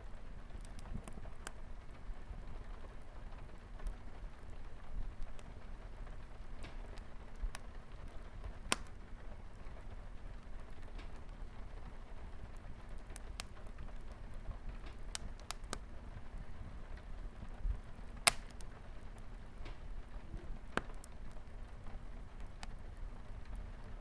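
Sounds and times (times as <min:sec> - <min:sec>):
fireplace crackling: 0:00.0 - 0:24.0
rain pattering on window: 0:00.1 - 0:24.0.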